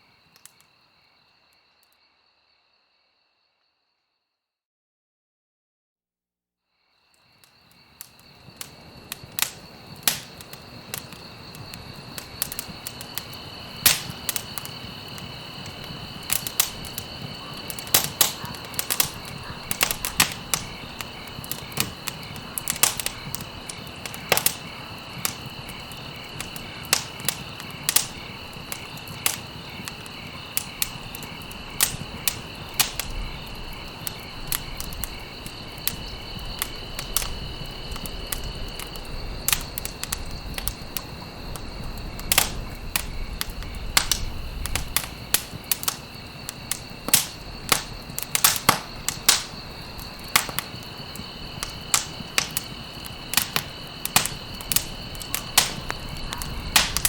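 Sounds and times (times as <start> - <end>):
campfire crackling and popping: 0.4 - 0.7, 7.2 - 57.0
high insect trill: 6.7 - 57.0.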